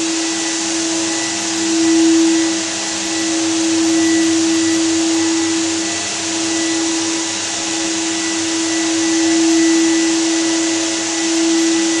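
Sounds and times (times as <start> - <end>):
floor sander running: 0.0 - 12.0.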